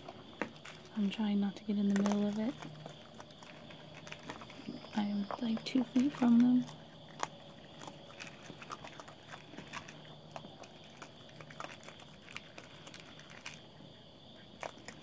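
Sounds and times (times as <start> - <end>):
raccoons crunching kibble: 0.0 - 15.0.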